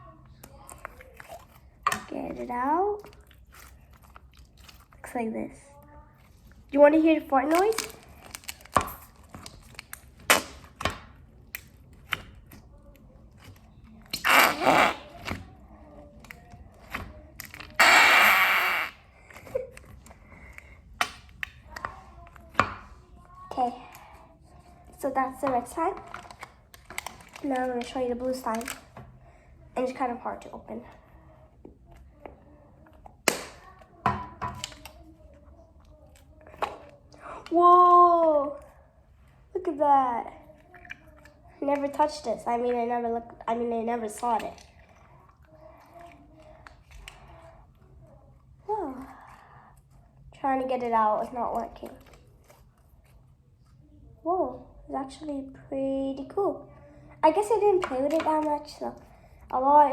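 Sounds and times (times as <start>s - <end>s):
slime squelching: 0.0s - 54.7s.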